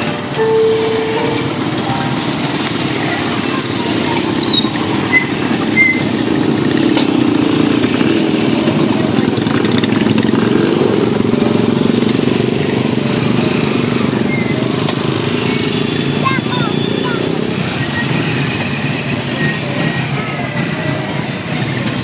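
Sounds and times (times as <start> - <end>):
small motorcycles riding past: 0.0 - 22.0.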